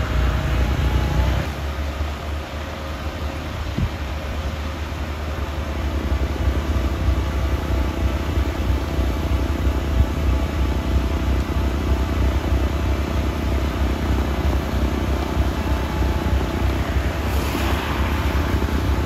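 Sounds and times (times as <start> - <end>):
snowblower tractor engine rumble: 0.0 - 19.0.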